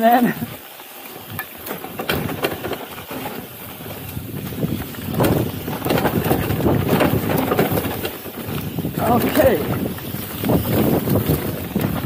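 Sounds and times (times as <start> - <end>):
bike rattling over bumps: 0.0 - 12.0
tyres rumbling over dirt: 0.0 - 12.0
wind buffeting microphone: 0.4 - 12.0.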